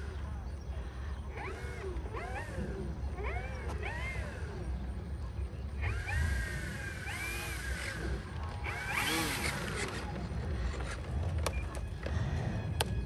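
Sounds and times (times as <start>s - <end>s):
servos whining: 0.0s - 13.0s.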